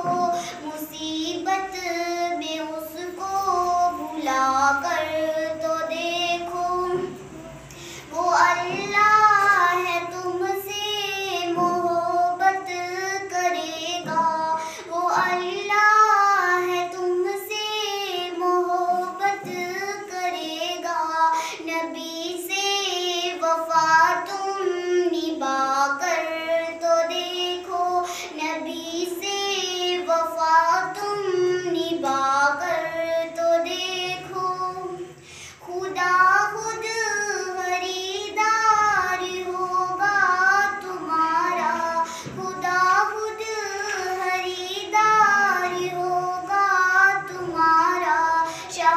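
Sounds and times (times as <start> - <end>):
girl singing unaccompanied: 0.0 - 48.9.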